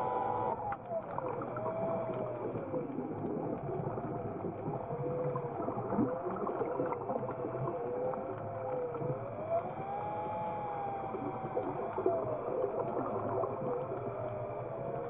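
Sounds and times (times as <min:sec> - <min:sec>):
underwater thrusters whining: 0:00.0 - 0:14.9.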